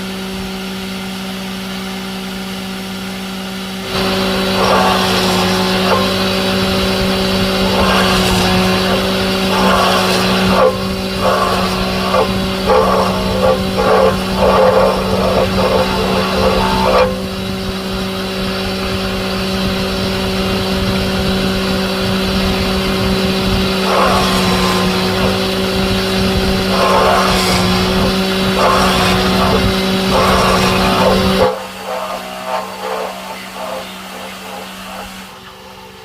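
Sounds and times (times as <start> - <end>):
bursts of rough noise: 3.8 - 18.2, 21.2 - 36.0
motor humming: 3.8 - 36.0.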